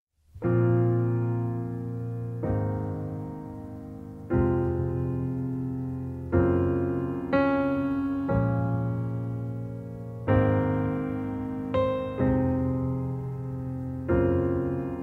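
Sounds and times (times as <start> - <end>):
slow piano chords: 0.2 - 15.0.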